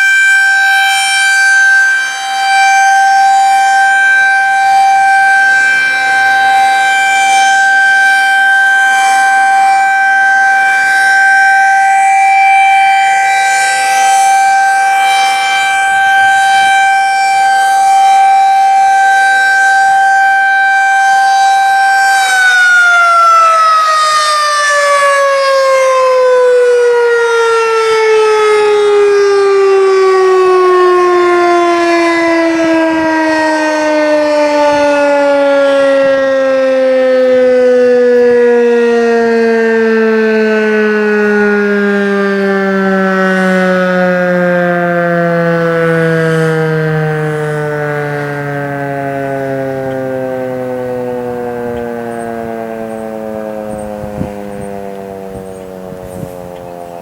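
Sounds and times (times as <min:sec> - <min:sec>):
tornado siren: 0:00.0 - 0:57.0.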